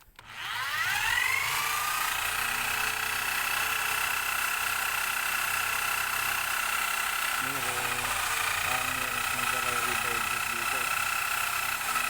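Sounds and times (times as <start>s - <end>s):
electric motor whining: 0.1s - 12.0s.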